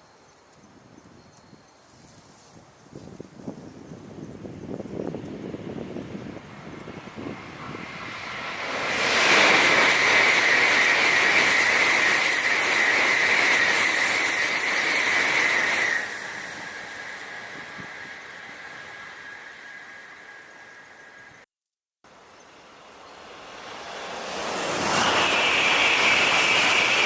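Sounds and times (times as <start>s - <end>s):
high-speed train passing: 2.9s - 21.4s, 22.1s - 27.0s.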